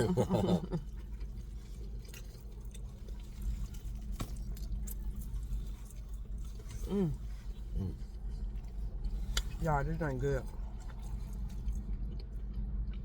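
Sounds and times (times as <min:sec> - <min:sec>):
person chewing crunchy food: 0:00.0 - 0:09.6, 0:10.5 - 0:13.0
low steady hum: 0:00.0 - 0:13.0.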